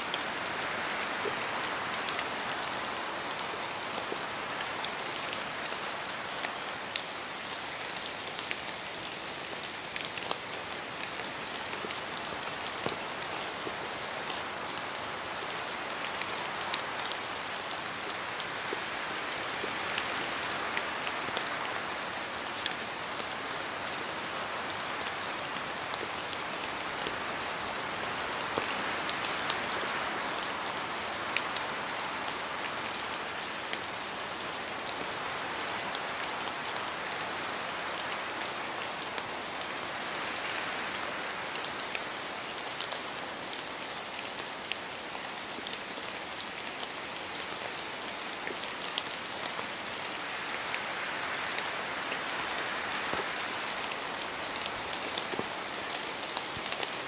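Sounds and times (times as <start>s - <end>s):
steady rainfall: 0.0s - 57.0s
raindrops ticking on a surface: 0.1s - 57.0s.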